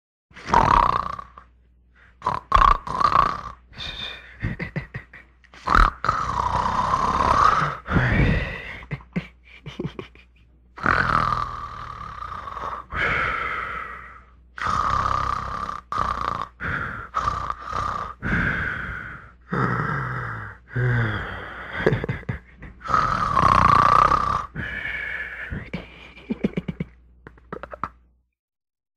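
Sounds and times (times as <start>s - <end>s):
man snoring comically: 0.4s - 1.5s, 2.2s - 10.1s, 10.8s - 26.9s.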